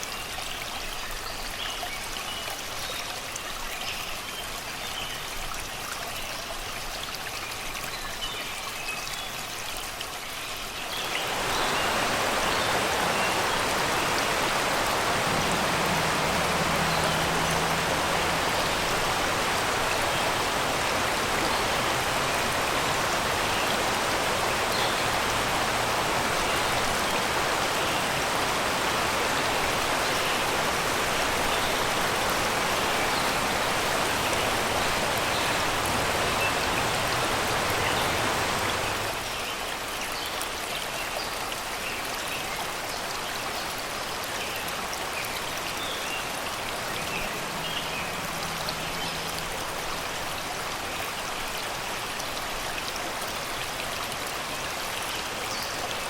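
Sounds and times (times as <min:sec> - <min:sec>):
river water rushing over rocks: 0:08.6 - 0:56.0.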